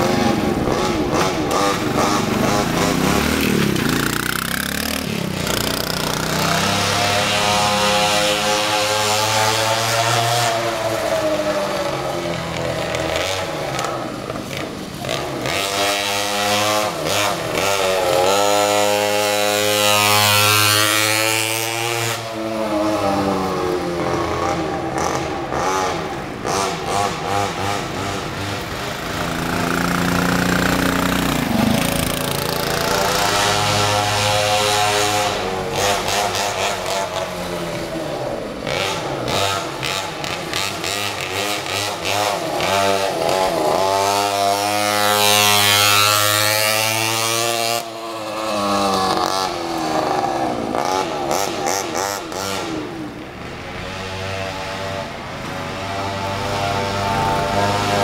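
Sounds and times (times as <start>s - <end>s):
mini bike engines revving: 0.0s - 58.0s.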